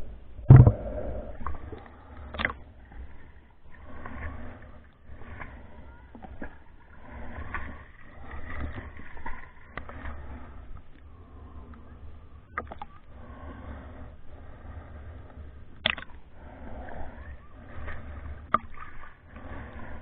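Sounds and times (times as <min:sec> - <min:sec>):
muffled underwater rumble: 0:00.0 - 0:20.0
water sloshing and gurgling: 0:00.0 - 0:20.0.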